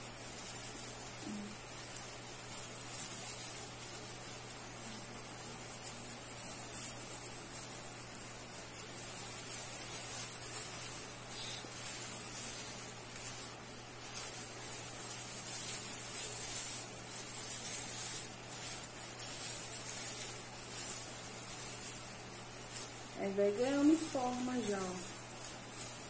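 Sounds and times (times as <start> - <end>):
tinsel rustling and crinkling: 0.0 - 26.0.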